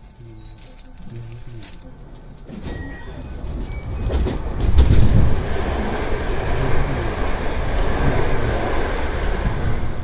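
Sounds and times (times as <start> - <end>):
electric train running: 0.0 - 10.0
wheel and motor rumble: 0.0 - 10.0.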